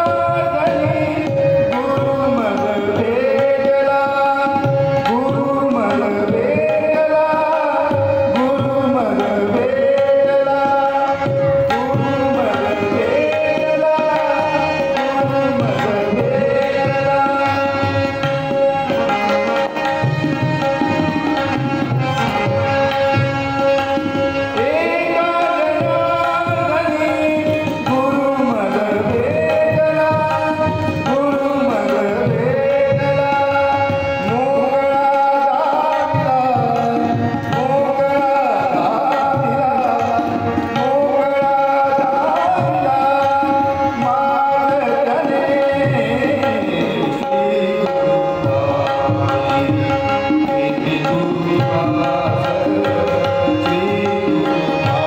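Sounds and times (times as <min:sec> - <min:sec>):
harmonium: 0:00.0 - 0:55.0
man singing: 0:00.0 - 0:55.0
tabla drumming: 0:00.0 - 0:55.0.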